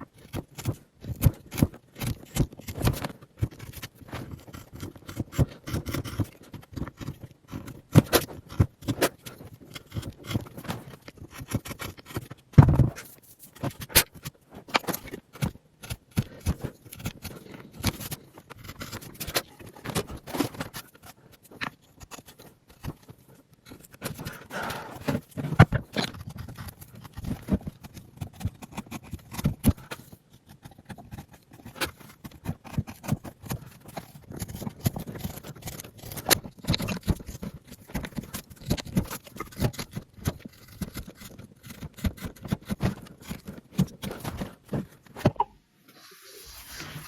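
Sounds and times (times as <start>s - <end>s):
tapping knocking and scraping: 0.1s - 45.6s.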